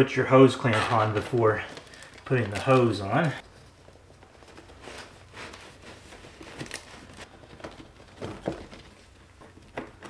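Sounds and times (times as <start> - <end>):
duct hose crinkling and rustling: 0.0 - 10.0.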